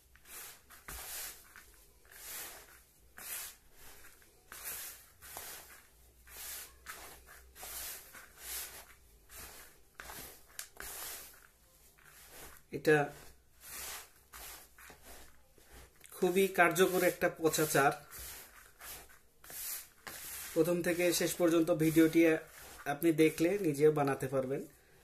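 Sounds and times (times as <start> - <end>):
hand stirring dry bait mix: 0.0 - 24.8.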